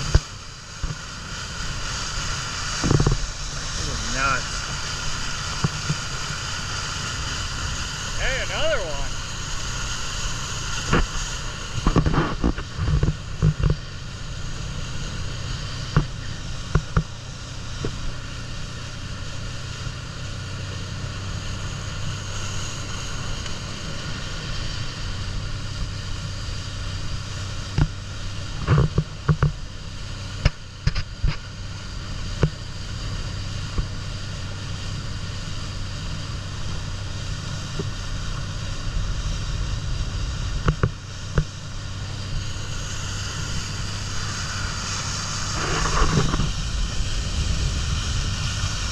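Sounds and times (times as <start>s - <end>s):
boat engine humming: 0.0s - 48.9s
water rushing: 0.0s - 48.9s
wind: 0.0s - 48.9s.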